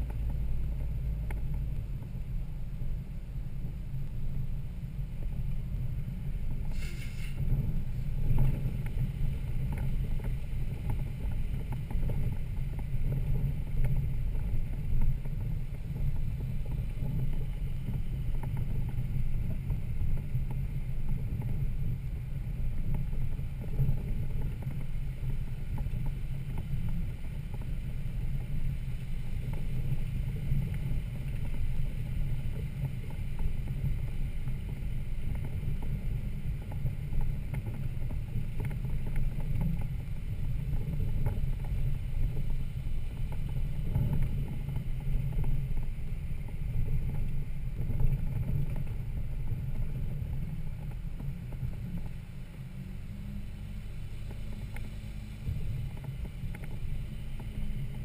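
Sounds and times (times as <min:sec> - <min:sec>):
engine rumbling at low revs: 0:00.0 - 0:58.0.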